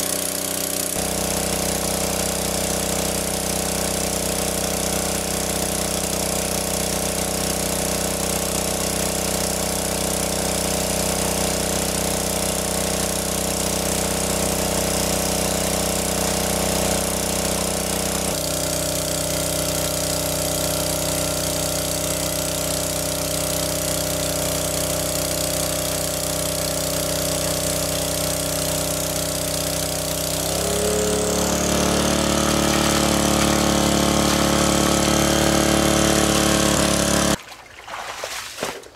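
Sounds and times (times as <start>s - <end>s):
water pump engine running: 0.0s - 38.6s.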